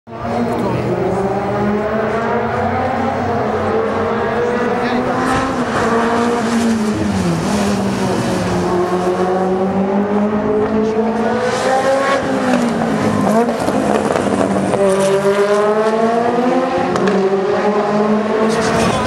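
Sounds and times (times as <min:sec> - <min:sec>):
rally car engine revving: 0:00.1 - 0:19.0.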